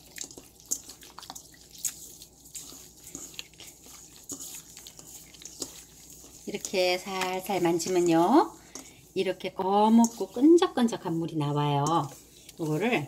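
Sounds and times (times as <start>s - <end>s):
wet squishing of oysters: 0.0s - 13.0s.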